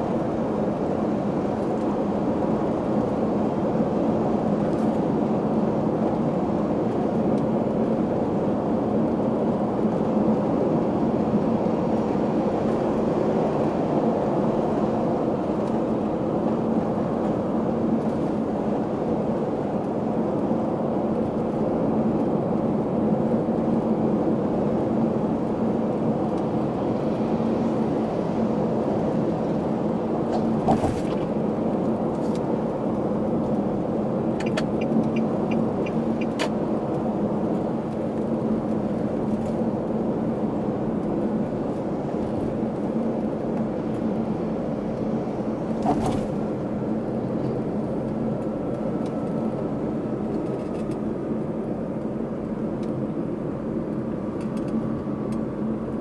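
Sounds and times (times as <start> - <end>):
car engine hum: 0.0 - 56.0
road and tyre noise: 0.0 - 56.0.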